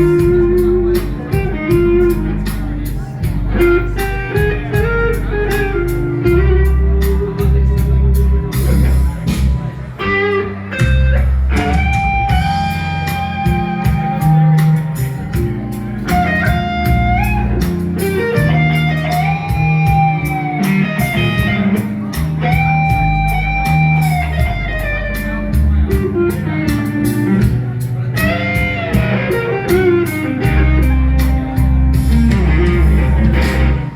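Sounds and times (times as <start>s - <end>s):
steady drum beat: 0.0s - 9.9s, 10.8s - 33.9s
bass guitar: 0.0s - 33.9s
electric guitar: 0.0s - 33.9s
sliding lead guitar line: 0.0s - 33.9s.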